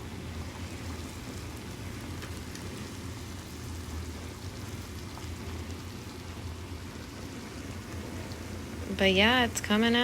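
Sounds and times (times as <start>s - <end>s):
low steady hum: 0.0s - 10.0s
water boiling and bubbling: 0.0s - 10.0s.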